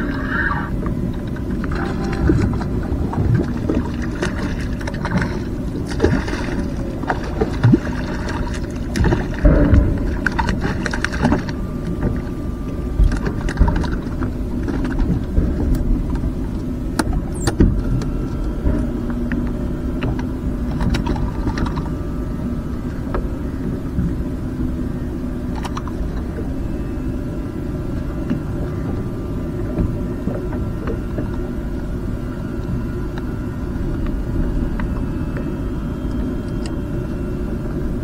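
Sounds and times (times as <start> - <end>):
faint held hum: 0.0 - 38.0
wind and water rumble: 0.0 - 38.0.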